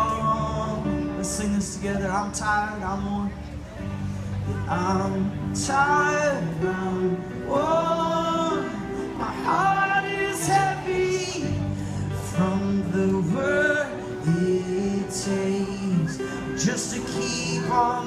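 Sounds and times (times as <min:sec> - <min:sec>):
person singing: 0:00.0 - 0:03.4, 0:04.6 - 0:18.0
guitars: 0:00.0 - 0:18.0
keyboard: 0:00.0 - 0:18.0.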